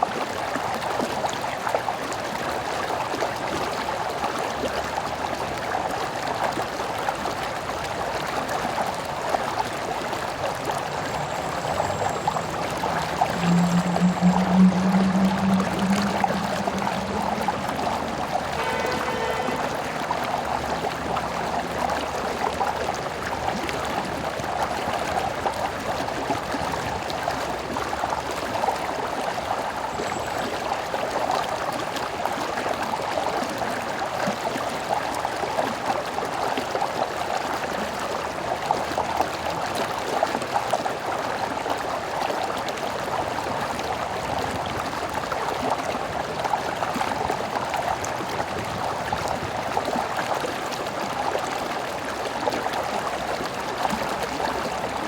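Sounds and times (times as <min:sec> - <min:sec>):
stream flowing and bubbling: 0:00.0 - 0:55.0.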